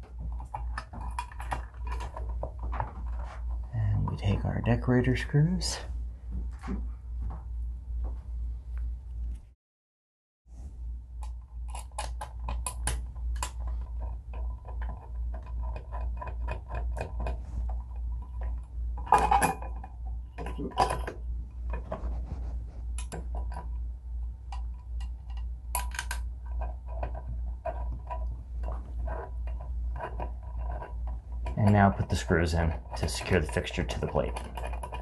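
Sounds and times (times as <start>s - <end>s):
low hum: 0.0s - 9.5s, 10.5s - 35.0s.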